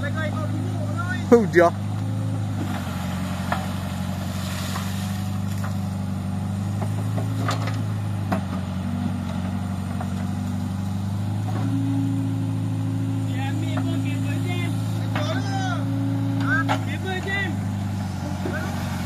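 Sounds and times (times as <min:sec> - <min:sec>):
backhoe diesel engine running: 0:00.0 - 0:19.0.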